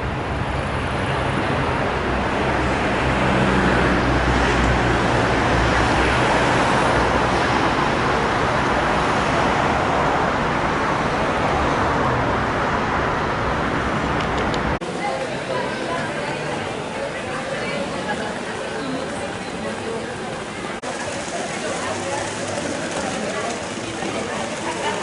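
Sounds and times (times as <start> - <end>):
road noise rush: 0.0 - 25.0.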